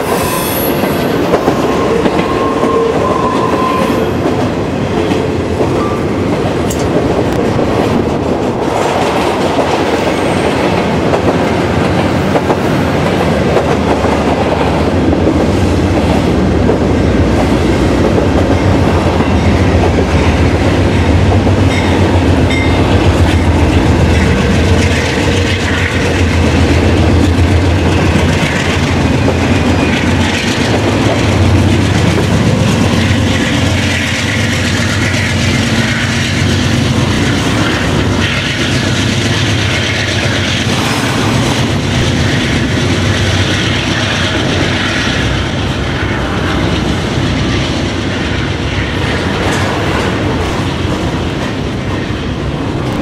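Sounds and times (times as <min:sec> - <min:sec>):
diesel locomotives passing: 0:00.0 - 0:53.0
freight train rolling rumble: 0:00.0 - 0:53.0.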